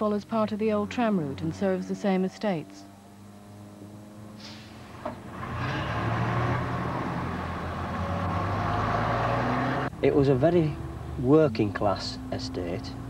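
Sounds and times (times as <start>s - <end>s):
bus engine: 0.0s - 13.0s.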